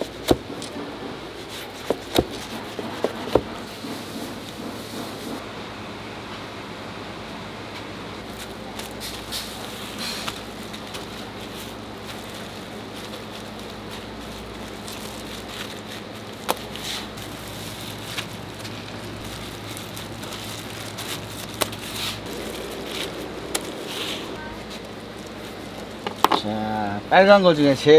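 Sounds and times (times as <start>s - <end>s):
kitchen background hiss and hum: 0.0s - 27.9s.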